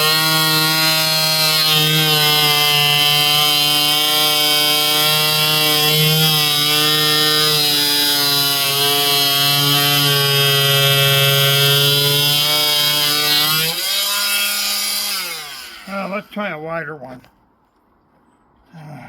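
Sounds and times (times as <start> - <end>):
electric router cutting wood: 0.0 - 16.3.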